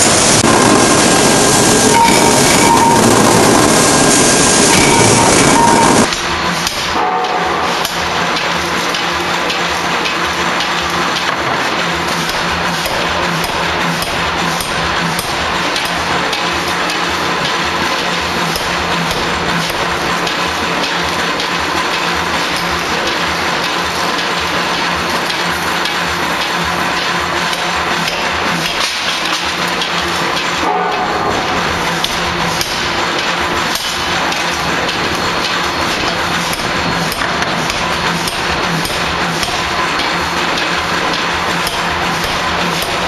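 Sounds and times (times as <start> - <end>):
ring rolling machine hum: 0.0 - 43.0.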